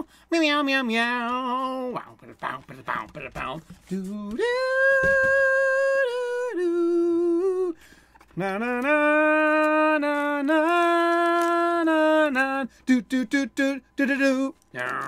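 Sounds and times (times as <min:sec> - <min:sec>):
man singing a capella: 0:00.0 - 0:15.0.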